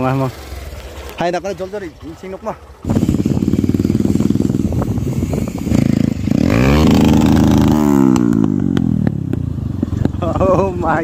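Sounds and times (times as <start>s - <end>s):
motorcycle engine revving: 0.0s - 11.0s
motorcycle engines running: 0.0s - 11.0s.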